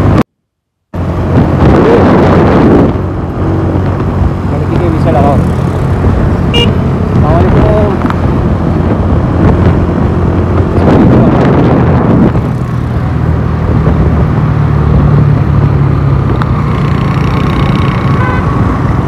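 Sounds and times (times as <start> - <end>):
passing traffic: 0.0 - 0.2, 0.9 - 19.0
road and wind noise: 0.0 - 19.0
motorcycle engine running: 2.6 - 19.0.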